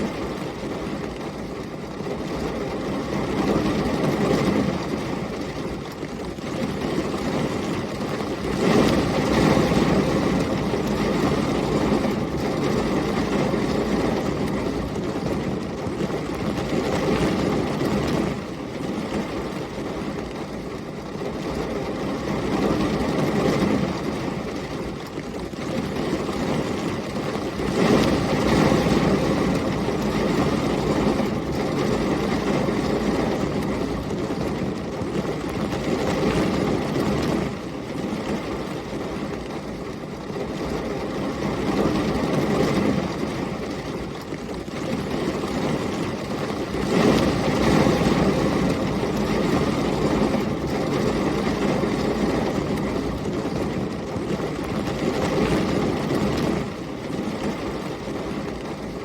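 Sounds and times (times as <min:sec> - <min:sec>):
dense rain: 0:00.0 - 0:59.0.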